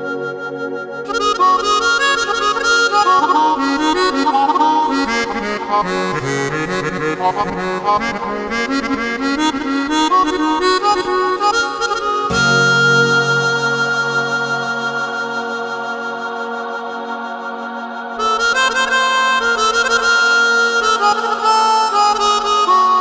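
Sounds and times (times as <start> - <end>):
keyboard melodica melody: 0.0 - 23.0.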